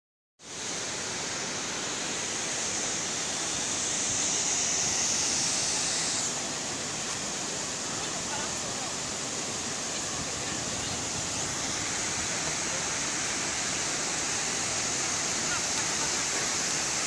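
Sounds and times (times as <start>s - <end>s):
fountain water rushing: 0.4s - 17.0s.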